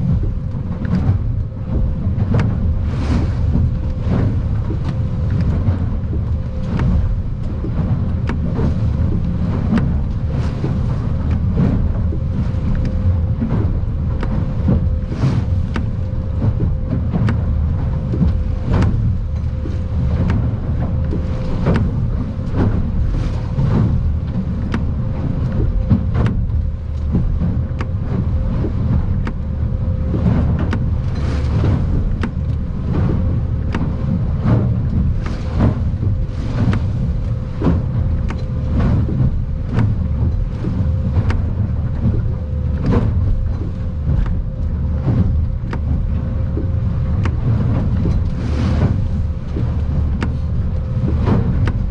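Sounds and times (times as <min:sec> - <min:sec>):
boat engine rumble: 0:00.0 - 0:51.9
hull slamming into waves: 0:00.0 - 0:51.9.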